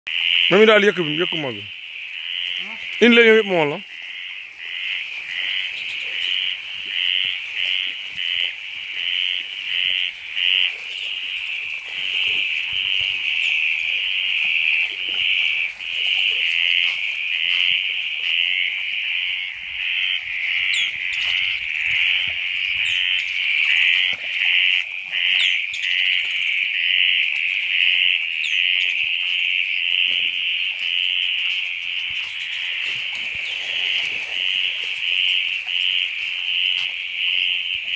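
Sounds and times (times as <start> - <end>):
frogs calling in chorus: 0.1 - 37.9.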